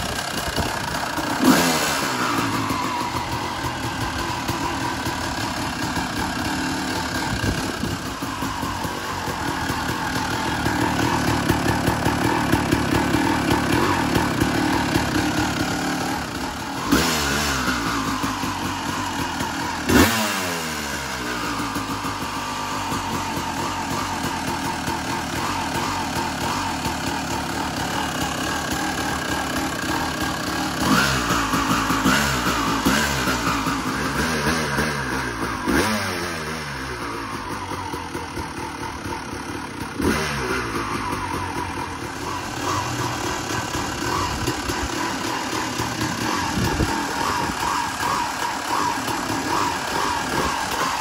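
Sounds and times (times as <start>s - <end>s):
two-stroke engine idling and revving: 0.0s - 51.0s.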